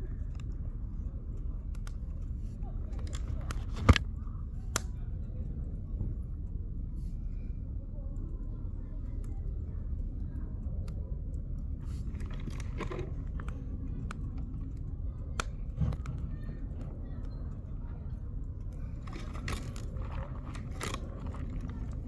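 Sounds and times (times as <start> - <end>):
low steady fire rumble: 0.0 - 22.0.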